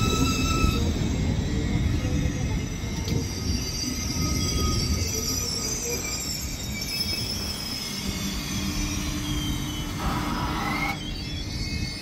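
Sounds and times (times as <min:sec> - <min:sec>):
electric train rumbling: 0:00.0 - 0:12.0
train wheels squealing: 0:00.0 - 0:12.0.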